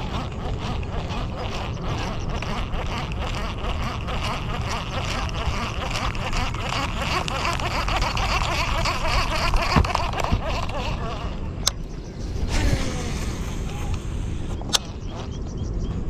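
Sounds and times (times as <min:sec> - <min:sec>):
many birds chattering: 0:00.0 - 0:16.0
wind rumbling on microphone: 0:00.0 - 0:16.0.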